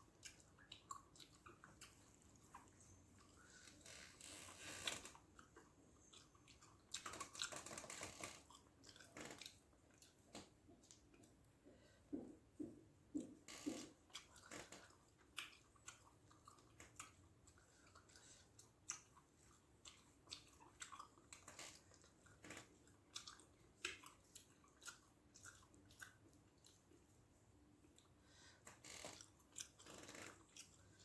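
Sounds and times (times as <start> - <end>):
close-up chewing with mouth smacks: 0.0 - 31.0.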